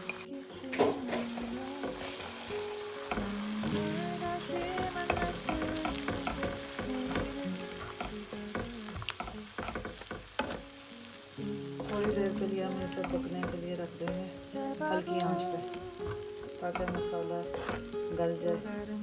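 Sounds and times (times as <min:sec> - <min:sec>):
spatula scraping a pan: 0:00.0 - 0:10.7, 0:11.8 - 0:14.3, 0:15.9 - 0:18.8
masala sizzling in oil: 0:00.0 - 0:19.0.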